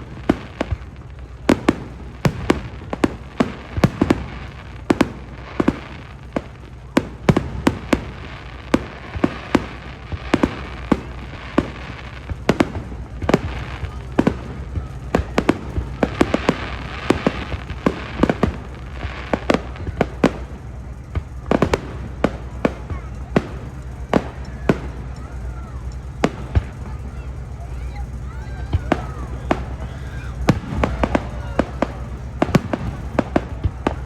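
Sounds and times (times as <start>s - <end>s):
fireworks bangs and pops: 0.0s - 34.0s.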